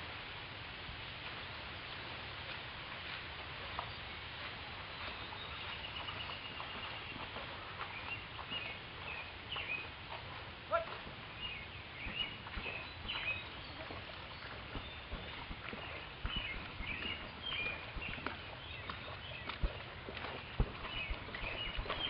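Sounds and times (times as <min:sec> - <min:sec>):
steady outdoor hiss: 0:00.0 - 0:22.0
small birds chirping: 0:03.6 - 0:22.0.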